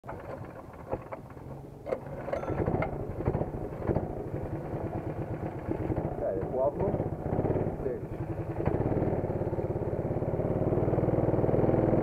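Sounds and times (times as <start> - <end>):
go-kart engine idling: 0.1 - 12.0.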